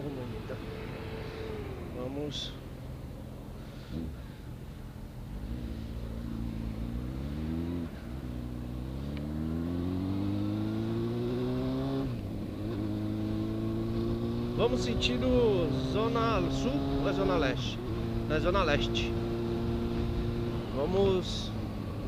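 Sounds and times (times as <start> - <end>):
motorcycle engine accelerating: 0.3 - 22.0.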